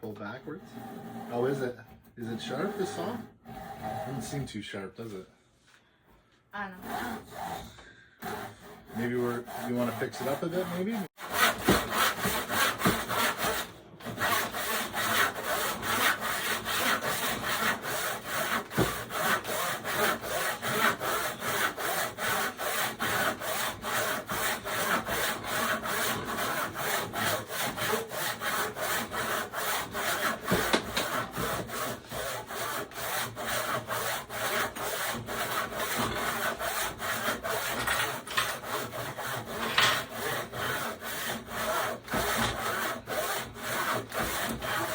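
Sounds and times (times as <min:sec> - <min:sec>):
handsaw cutting wood: 0:00.1 - 0:05.2, 0:06.6 - 0:44.9.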